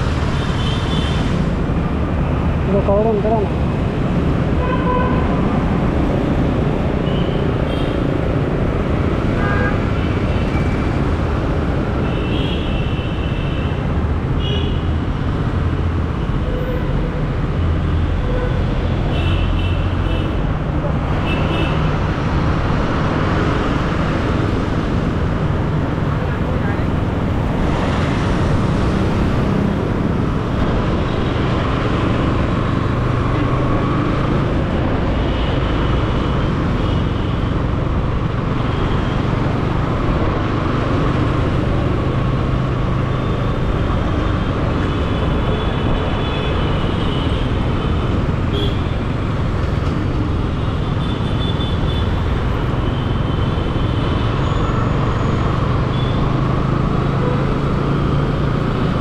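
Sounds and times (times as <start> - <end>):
traffic noise: 0.0 - 59.0.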